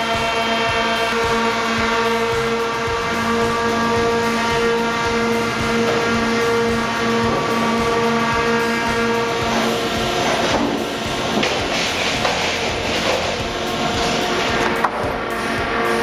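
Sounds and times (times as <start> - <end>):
mechanical rumble: 0.0 - 16.0
sawmill machinery humming: 0.0 - 16.0.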